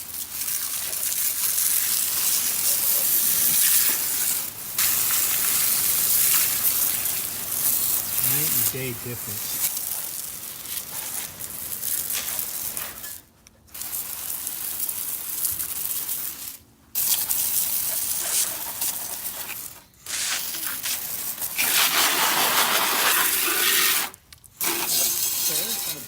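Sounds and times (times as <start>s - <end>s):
liquid spraying from nozzle: 0.0s - 13.1s, 13.7s - 26.0s.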